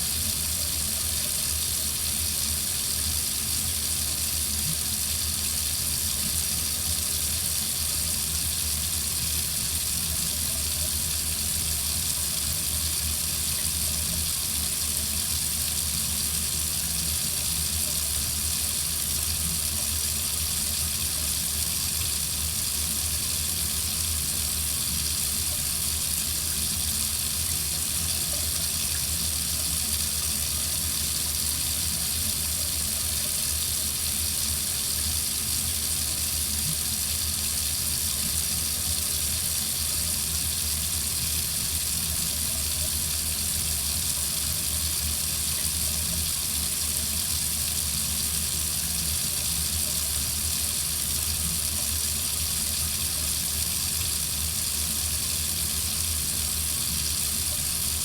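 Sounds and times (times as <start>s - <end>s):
water running into sink: 0.0s - 58.0s.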